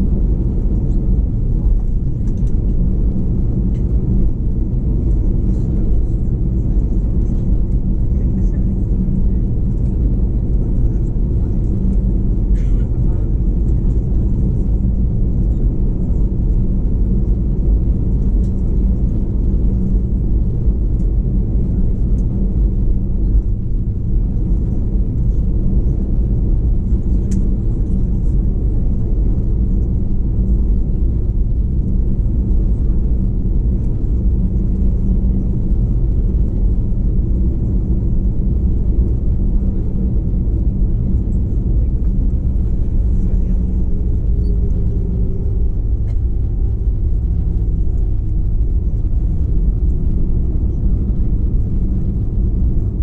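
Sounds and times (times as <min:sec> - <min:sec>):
aircraft cabin engine rumble: 0:00.0 - 0:53.0.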